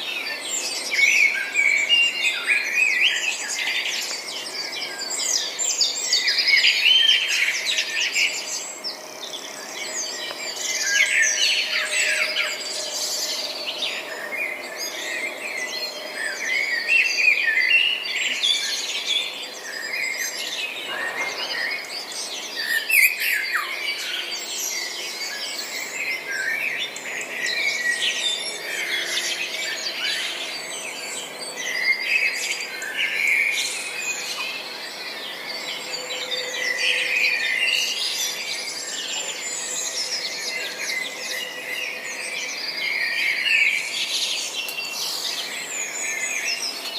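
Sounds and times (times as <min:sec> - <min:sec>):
birds chirping and singing: 0:00.0 - 0:46.9.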